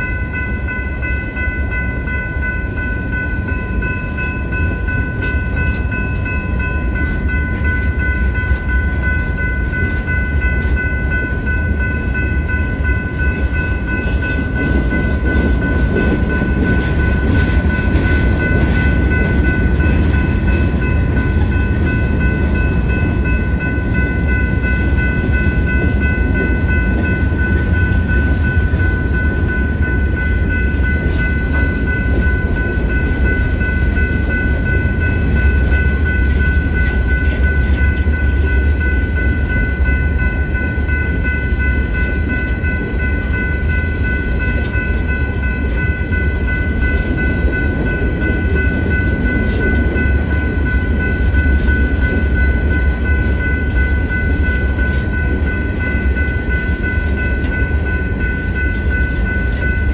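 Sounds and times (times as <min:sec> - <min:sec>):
crossing warning bell ringing: 0:00.0 - 0:59.9
freight train wheels rumbling on rail: 0:00.0 - 0:59.9.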